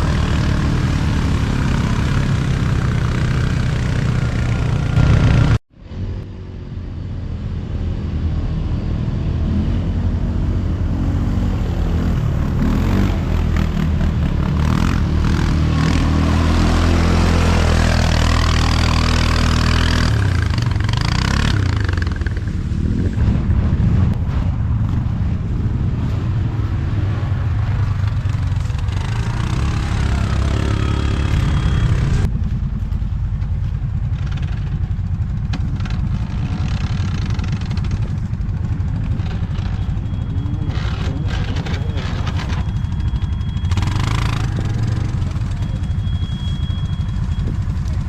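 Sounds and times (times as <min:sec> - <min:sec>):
quad bike engine revving: 0:00.0 - 0:05.6, 0:08.3 - 0:23.2, 0:26.7 - 0:32.3, 0:34.0 - 0:48.0.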